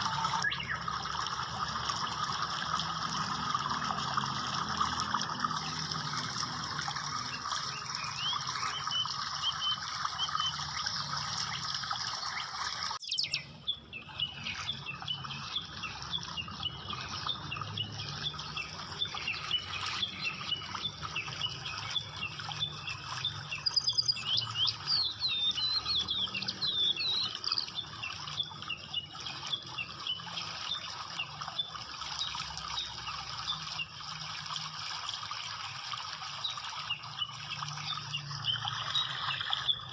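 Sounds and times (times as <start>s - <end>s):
small birds chirping: 0.0s - 1.0s, 5.0s - 33.9s, 36.3s - 39.9s.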